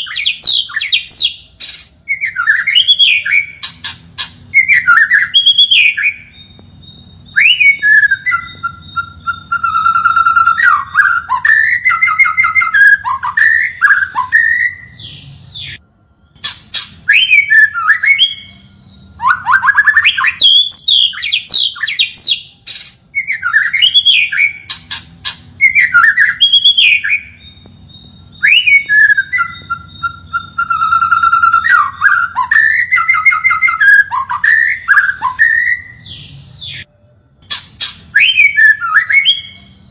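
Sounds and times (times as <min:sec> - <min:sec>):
bird singing whistles and trills: 0:00.0 - 0:15.8, 0:16.4 - 0:39.9.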